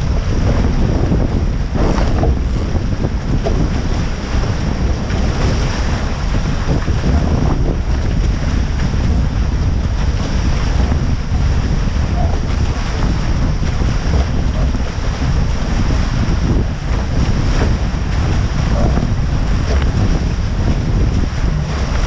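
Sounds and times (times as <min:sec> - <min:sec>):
water rushing and splashing: 0:00.0 - 0:22.0
wind buffeting microphone: 0:00.0 - 0:22.0.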